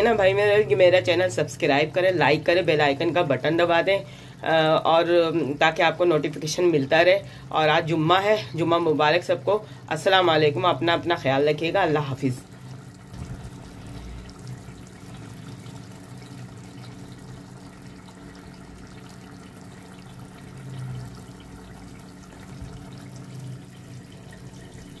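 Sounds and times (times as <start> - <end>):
curry bubbling in a pot: 0.0 - 25.0.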